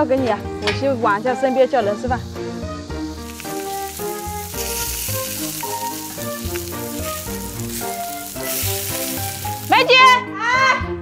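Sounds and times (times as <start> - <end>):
fat sizzling on charcoal: 0.0 - 10.1
light melodic background tune: 0.0 - 11.0.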